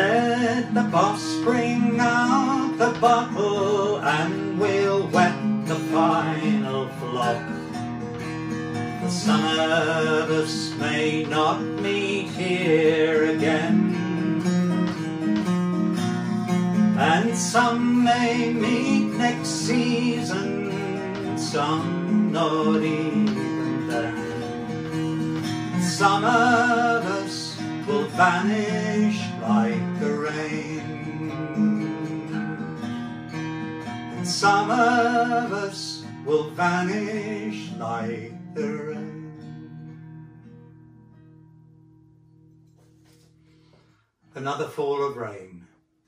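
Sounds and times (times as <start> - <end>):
acoustic guitar strummed and picked: 0.0 - 45.9.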